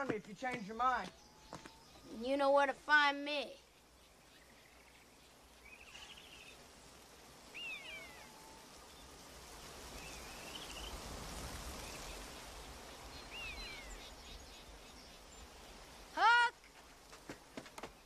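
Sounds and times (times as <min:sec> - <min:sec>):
bird chirping: 0:00.0 - 0:11.1, 0:11.7 - 0:16.2
soft hiss: 0:00.0 - 0:18.0.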